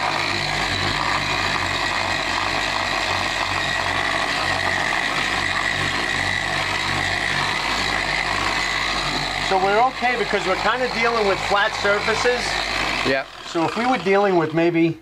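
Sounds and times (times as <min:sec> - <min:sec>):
electric polisher running: 0:00.0 - 0:14.8.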